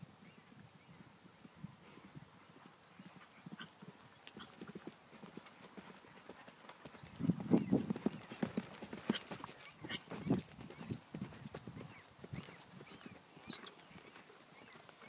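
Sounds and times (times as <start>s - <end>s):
horse hoofbeats on grass: 2.5s - 15.0s.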